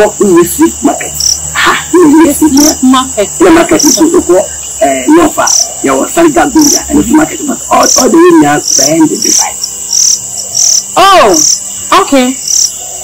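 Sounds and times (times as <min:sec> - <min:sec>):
people talking: 0:00.0 - 0:09.6, 0:11.0 - 0:13.0
crickets chirping: 0:00.0 - 0:13.0.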